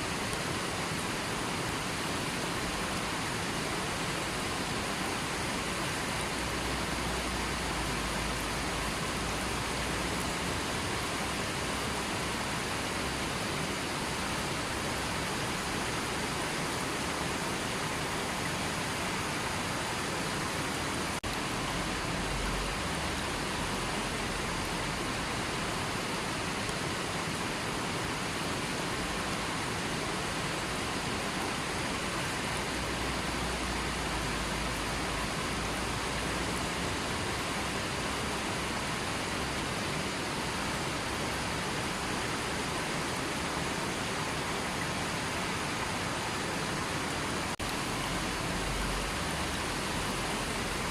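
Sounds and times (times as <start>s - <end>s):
river water flowing: 0.0s - 50.9s.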